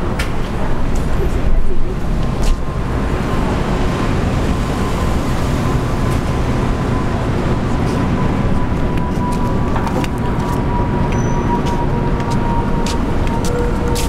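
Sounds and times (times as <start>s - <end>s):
city street traffic: 0.0s - 14.0s
streetcar passing: 0.0s - 14.0s.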